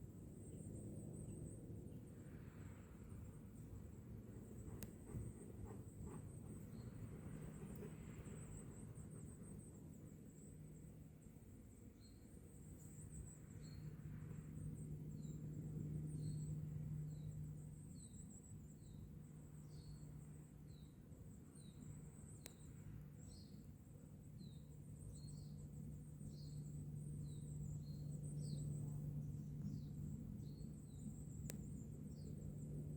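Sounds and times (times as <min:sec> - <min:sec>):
high continuous twittering: 0:00.0 - 0:32.9
low steady hum: 0:00.0 - 0:32.9.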